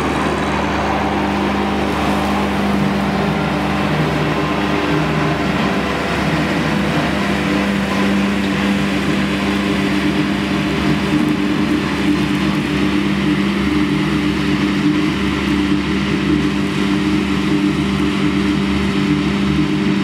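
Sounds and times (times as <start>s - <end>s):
mower mechanical hum: 0.0s - 20.0s
tractor engine running: 0.0s - 20.0s.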